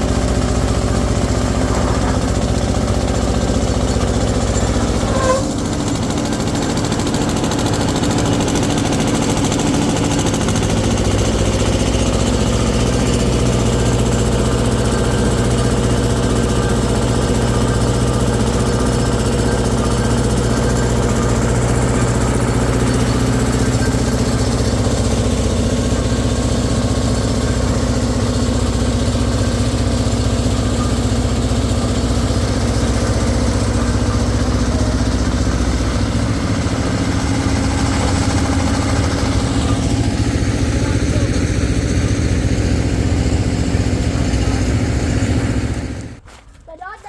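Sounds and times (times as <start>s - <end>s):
engine running steadily: 0.0s - 46.2s.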